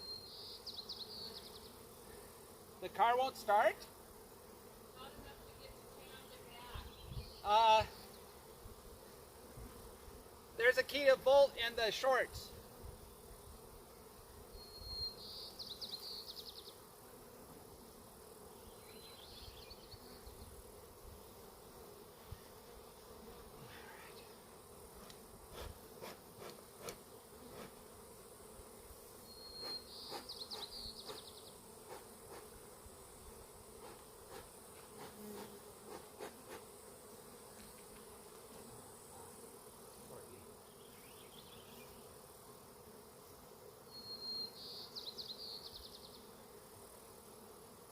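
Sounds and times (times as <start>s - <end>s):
honeybees buzzing: 0.0s - 47.9s.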